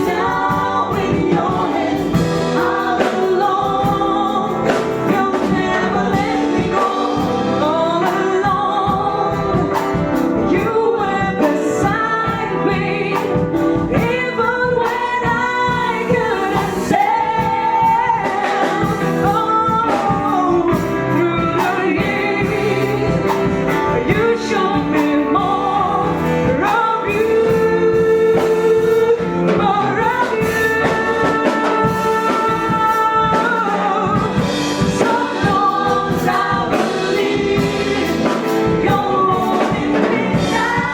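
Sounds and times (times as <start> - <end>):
gospel choir singing: 0.0 - 40.9
instrumental accompaniment with drums: 0.0 - 40.9.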